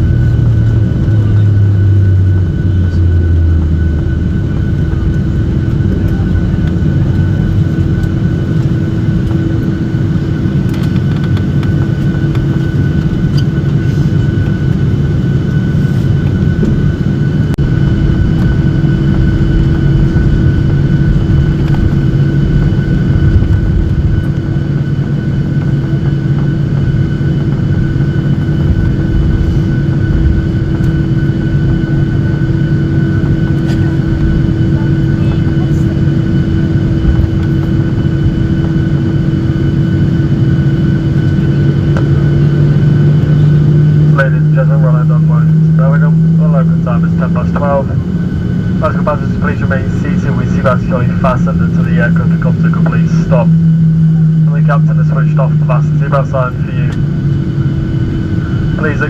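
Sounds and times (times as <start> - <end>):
jet engine cabin rumble: 0.0 - 59.0
turbofan whine: 0.0 - 59.0.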